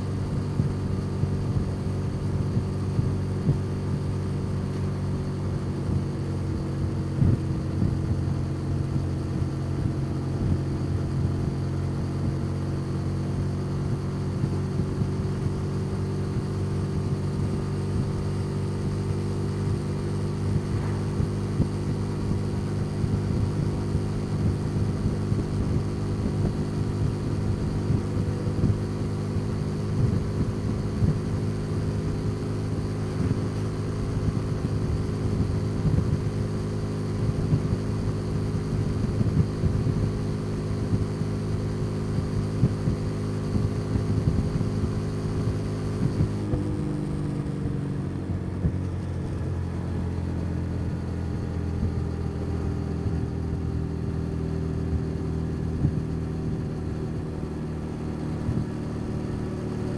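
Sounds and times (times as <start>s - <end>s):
motorcycle engine running steadily: 0.0s - 59.9s.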